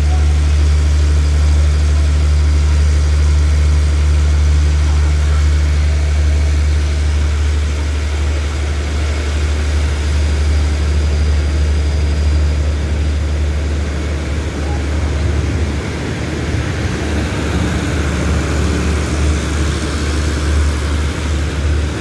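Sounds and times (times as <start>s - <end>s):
diesel train engine idling: 0.0s - 22.0s.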